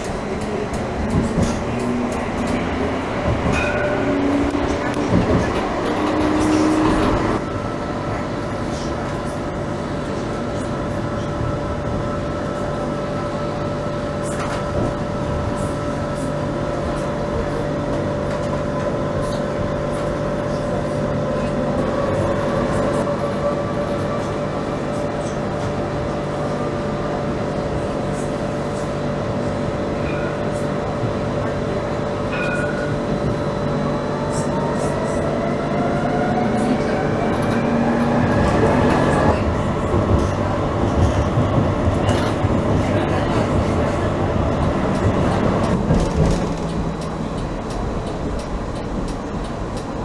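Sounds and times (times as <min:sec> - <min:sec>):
constant humming tone: 0:00.0 - 0:50.0
tram running noise: 0:00.0 - 0:50.0.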